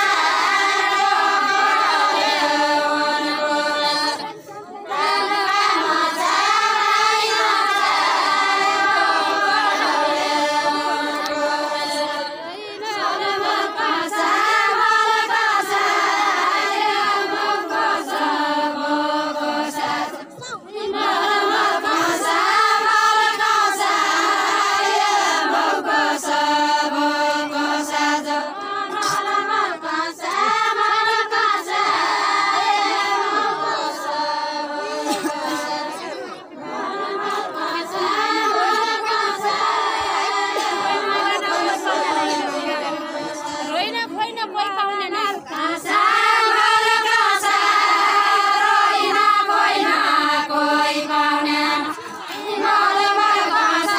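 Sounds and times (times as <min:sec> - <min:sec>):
women singing unaccompanied: 0:00.0 - 0:53.9.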